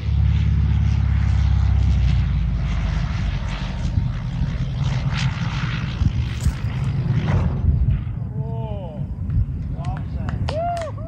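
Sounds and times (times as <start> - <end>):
propeller airplane engine drone: 0.0 - 11.0.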